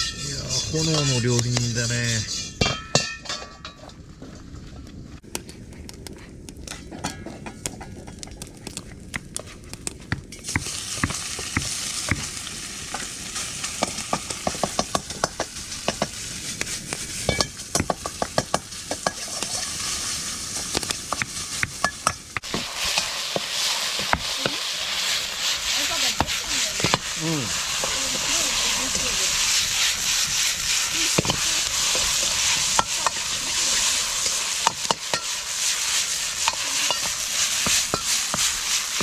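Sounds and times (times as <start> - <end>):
food sizzling: 0.0 - 3.5, 5.2 - 39.0.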